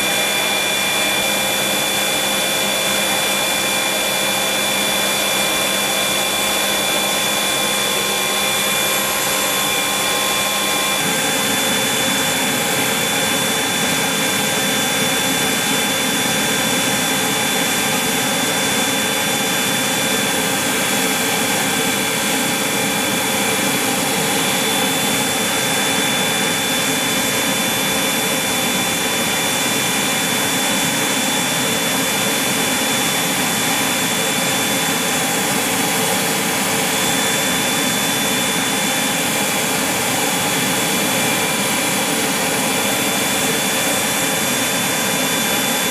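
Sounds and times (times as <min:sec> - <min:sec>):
helicopter turbine whine: 0:00.0 - 0:45.9.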